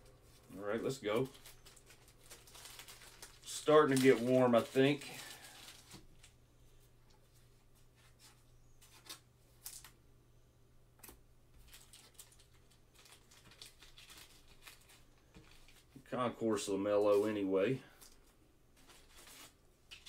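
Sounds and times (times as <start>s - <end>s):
trading cards and sleeves rustling: 0.0s - 10.0s, 11.6s - 20.0s.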